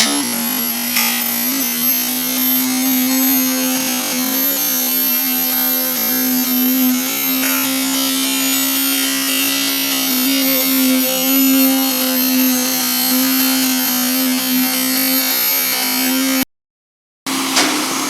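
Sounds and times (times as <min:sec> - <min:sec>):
machine buzzing hum: 0:00.0 - 0:16.5.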